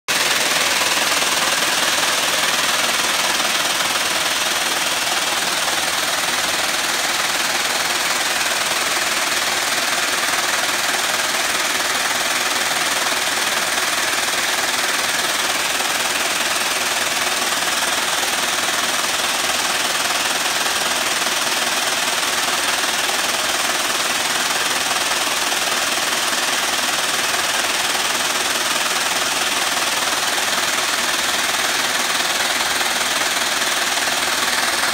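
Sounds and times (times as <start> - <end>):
braiding machine clattering: 0.1 - 34.9.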